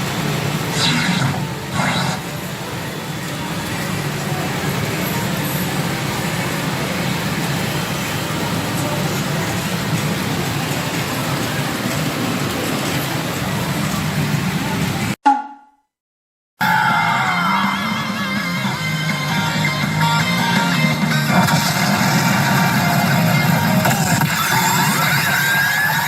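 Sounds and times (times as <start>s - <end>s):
pachinko machines running: 0.0s - 15.2s, 17.3s - 26.0s.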